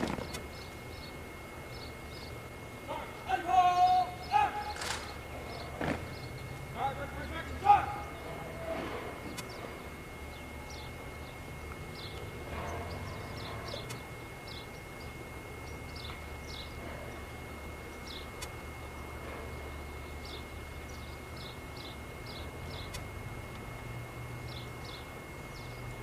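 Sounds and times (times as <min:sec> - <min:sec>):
low steady hum: 0:00.0 - 0:26.0
small birds chirping: 0:00.0 - 0:26.0
thin constant high tone: 0:00.0 - 0:26.0.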